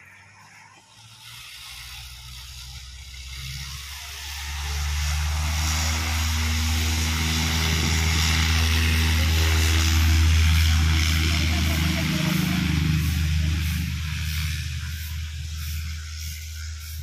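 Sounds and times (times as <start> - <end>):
light plane engine droning: 0.0 - 17.0.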